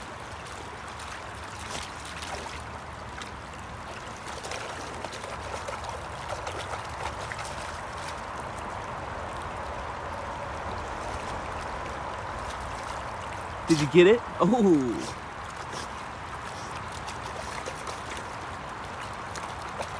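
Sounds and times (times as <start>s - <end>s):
river water running: 0.0s - 19.9s.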